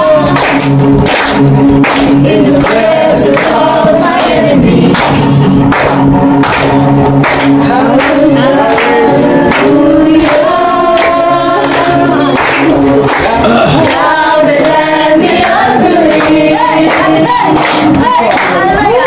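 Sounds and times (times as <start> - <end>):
group singing worship song: 0.0 - 19.0
people clapping along: 0.0 - 19.0.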